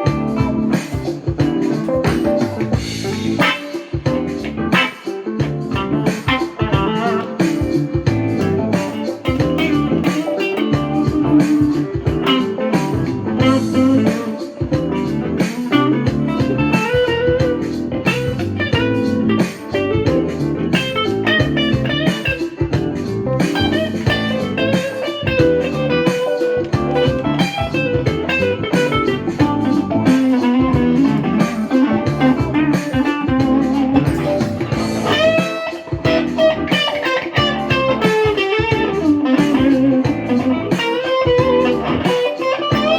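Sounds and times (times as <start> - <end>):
electric guitar notes and chords: 0.0 - 42.9.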